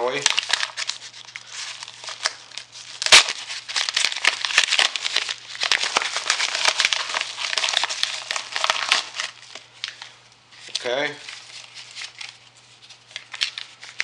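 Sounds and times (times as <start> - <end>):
paper envelope crinkling: 0.0 - 14.0.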